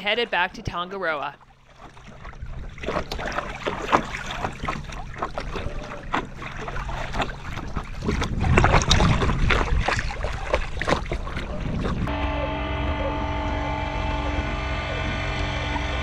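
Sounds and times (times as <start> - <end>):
water slapping against hull: 0.7 - 16.0
paddle splashing: 1.0 - 16.0
wind buffeting microphone: 2.1 - 16.0.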